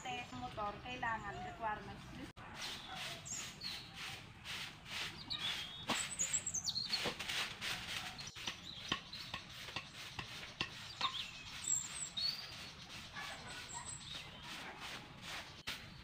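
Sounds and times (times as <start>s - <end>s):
birds chirping: 0.0s - 4.2s, 4.9s - 16.0s
broom sweeping dry leaves: 2.4s - 16.0s.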